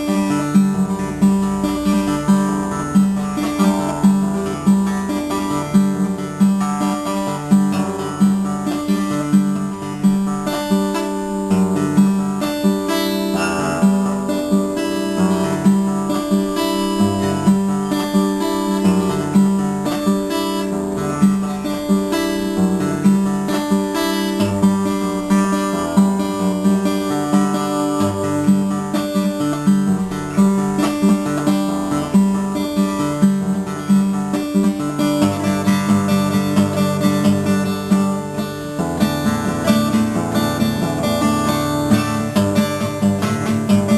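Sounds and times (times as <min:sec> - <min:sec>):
fingerpicked acoustic guitar: 0:00.0 - 0:43.9.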